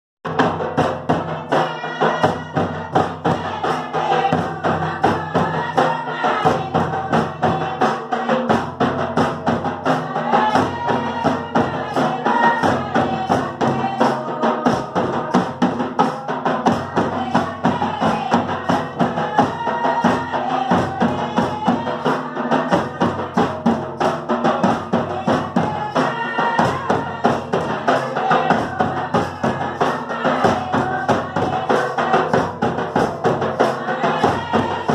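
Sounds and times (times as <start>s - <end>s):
barrel drum beating: 0.3s - 34.9s.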